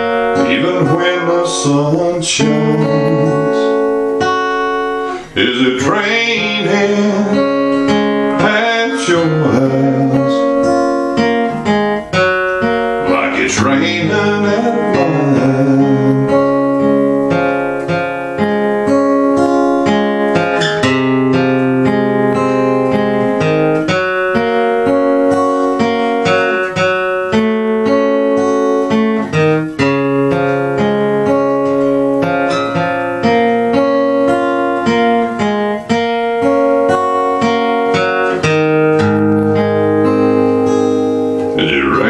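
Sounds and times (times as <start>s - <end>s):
acoustic guitar country music: 0.0s - 42.0s.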